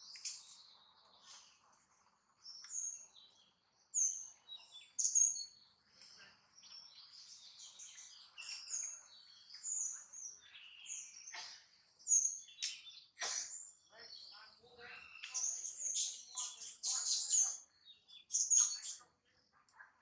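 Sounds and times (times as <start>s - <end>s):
birds chirping and trilling: 0.0s - 20.0s.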